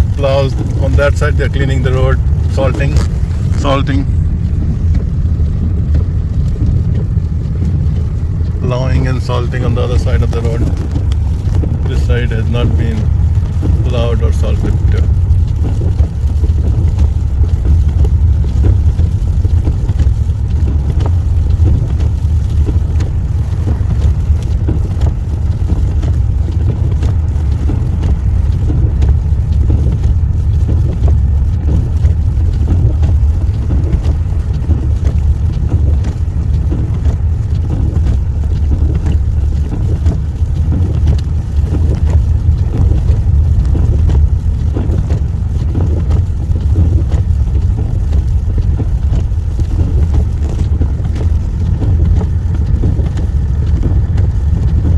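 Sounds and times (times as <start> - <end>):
car driving on snowy road: 0.0 - 54.9.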